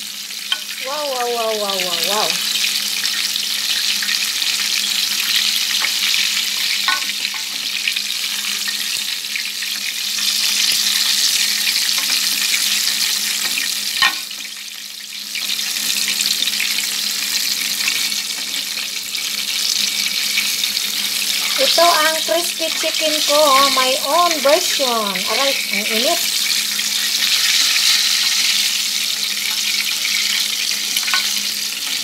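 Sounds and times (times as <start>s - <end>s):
chicken sizzling in oil: 0.0s - 32.0s.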